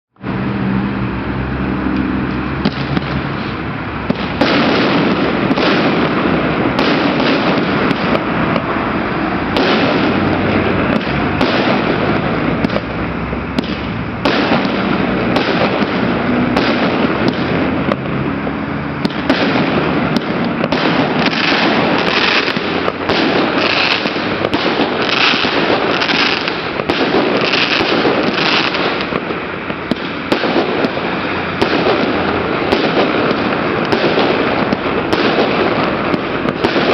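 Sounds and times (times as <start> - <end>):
fireworks bursting and crackling: 0.2 - 36.9.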